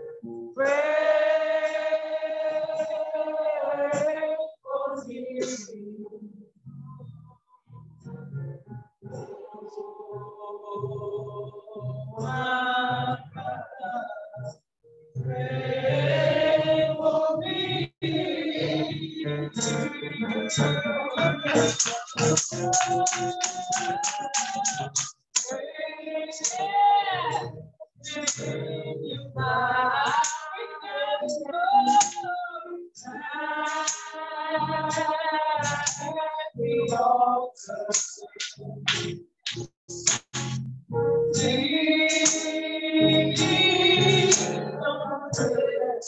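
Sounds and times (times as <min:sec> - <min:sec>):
voices singing a church song: 0:00.6 - 0:06.3, 0:09.1 - 0:14.6, 0:15.2 - 0:38.9, 0:41.4 - 0:46.0.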